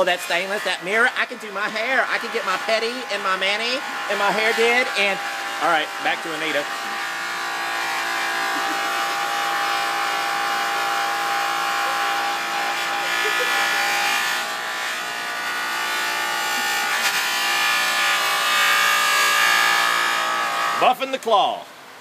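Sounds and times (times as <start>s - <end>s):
buffing machine motor whine: 0.0s - 20.8s.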